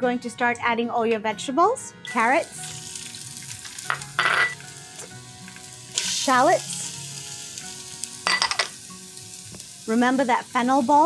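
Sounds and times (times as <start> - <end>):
carrots sizzling in hot oil: 2.1 - 11.0.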